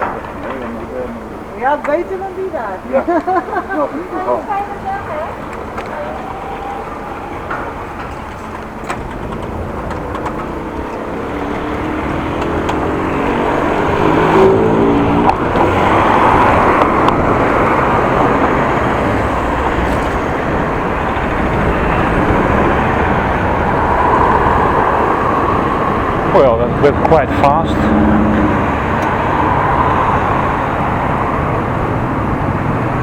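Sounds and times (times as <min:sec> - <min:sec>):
road and wind noise: 0:00.0 - 0:33.0
vehicle engine accelerating: 0:03.3 - 0:33.0.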